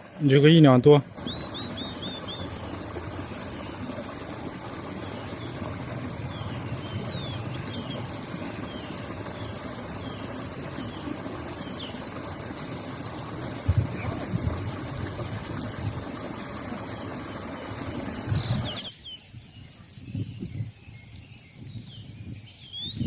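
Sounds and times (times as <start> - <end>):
small birds chirping: 0.3 - 14.2, 17.7 - 23.0.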